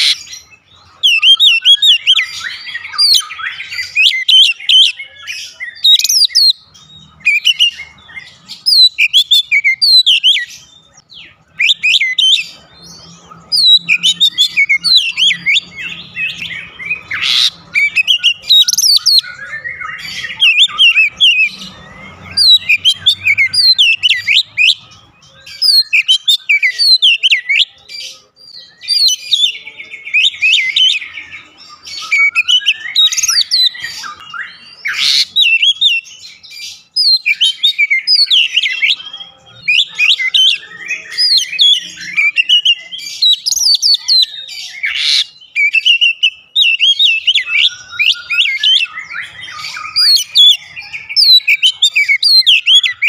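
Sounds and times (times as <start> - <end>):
bird singing whistles and chirps: 0.0 - 53.0.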